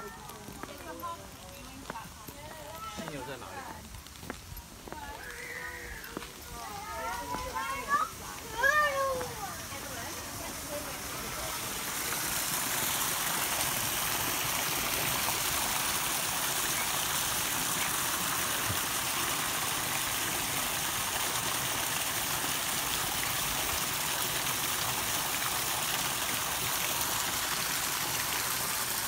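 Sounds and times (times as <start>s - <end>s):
running water: 0.0s - 29.0s.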